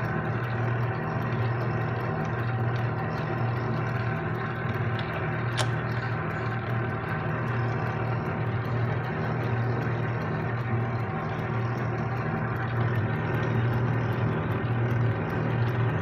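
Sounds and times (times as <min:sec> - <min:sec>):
lathe motor hum: 0:00.0 - 0:16.0.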